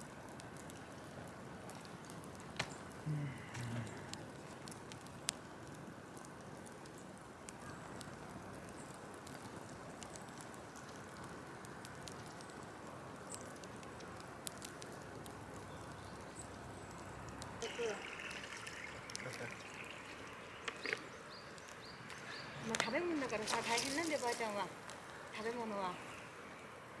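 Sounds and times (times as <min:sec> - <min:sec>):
bonfire hissing: 0:00.0 - 0:27.0
fire crackling and popping: 0:00.0 - 0:27.0.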